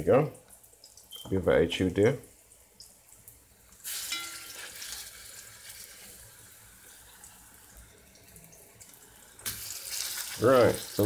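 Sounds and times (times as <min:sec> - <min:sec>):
slices frying in hot oil: 0:00.0 - 0:11.0.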